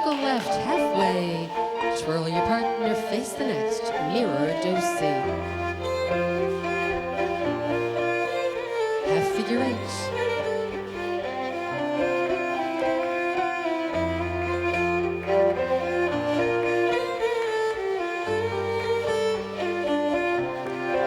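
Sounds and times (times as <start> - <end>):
fiddle-led dance band: 0.0 - 21.0.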